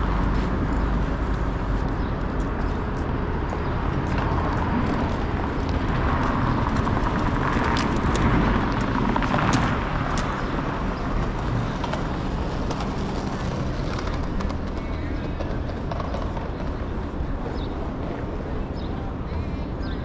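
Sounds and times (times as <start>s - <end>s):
car passing: 0.0s - 18.7s
traffic hum: 0.0s - 20.0s.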